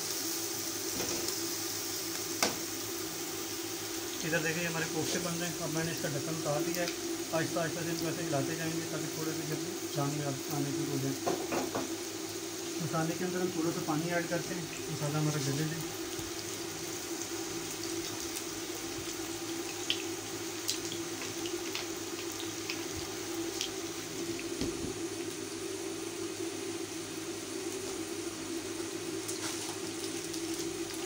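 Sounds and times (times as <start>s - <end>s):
sauce sizzling in a wok: 0.0s - 31.0s.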